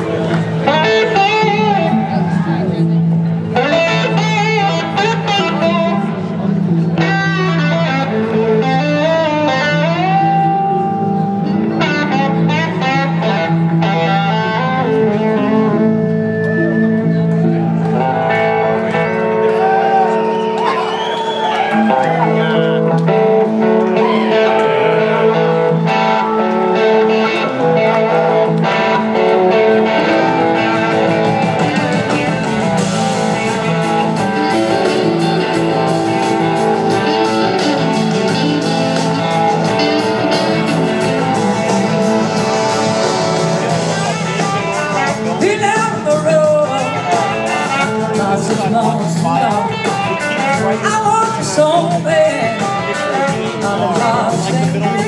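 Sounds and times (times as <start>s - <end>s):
blues-rock band playing live: 0.0s - 55.0s
sliding electric guitar lead: 0.0s - 55.0s.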